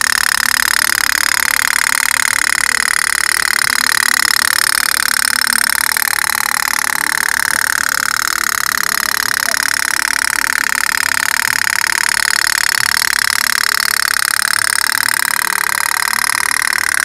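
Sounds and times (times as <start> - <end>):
toy steam boat putt-putt: 0.0 - 17.0.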